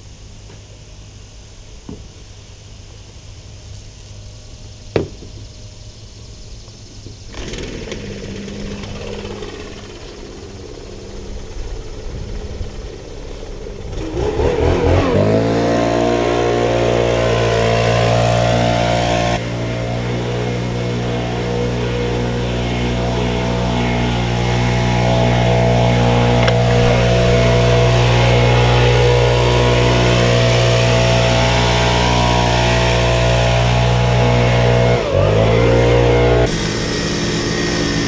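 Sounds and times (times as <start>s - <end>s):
mower engine speeding up: 7.3s - 38.0s.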